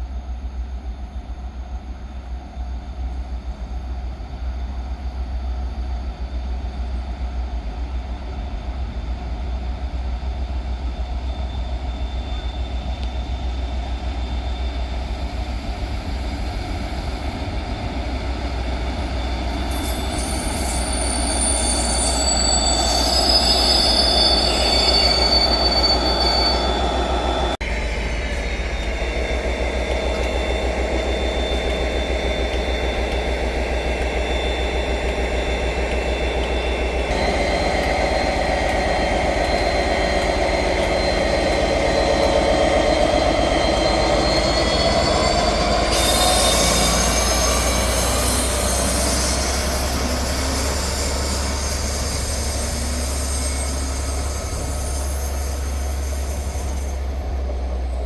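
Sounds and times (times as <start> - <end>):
train rumbling on track: 0.0 - 58.0
train wheel squeal: 0.0 - 58.0.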